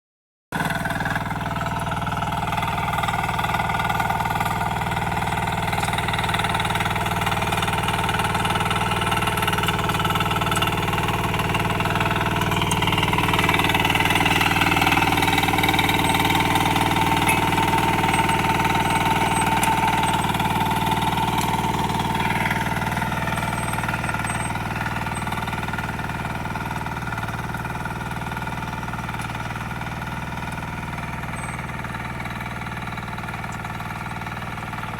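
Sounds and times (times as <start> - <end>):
diesel engine running: 0.6 - 34.9.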